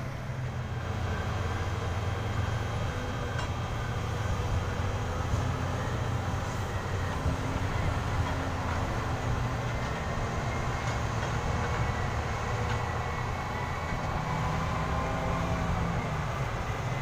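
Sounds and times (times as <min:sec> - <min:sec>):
diesel engines droning: 0:00.0 - 0:17.0.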